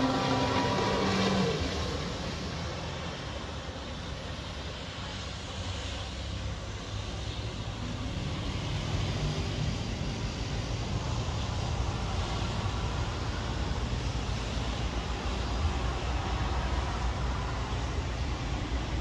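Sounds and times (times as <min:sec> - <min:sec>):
jet ski engine droning: 0:00.0 - 0:19.0.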